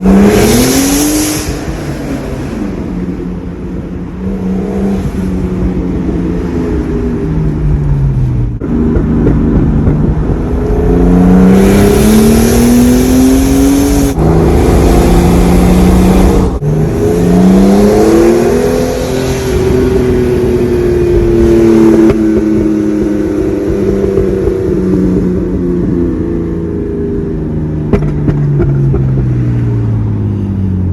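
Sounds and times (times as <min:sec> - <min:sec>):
car engine accelerating through gears: 0:00.0 - 0:03.2, 0:04.1 - 0:26.6.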